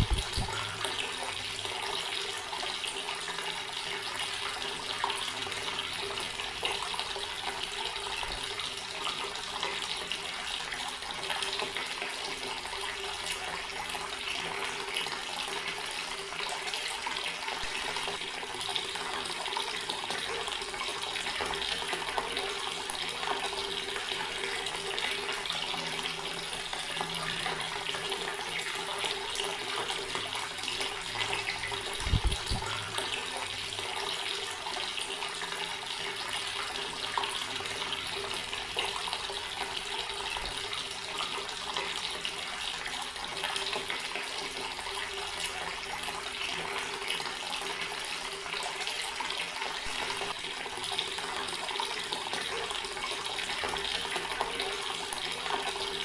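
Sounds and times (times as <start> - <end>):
water tap running: 0.0 - 56.0.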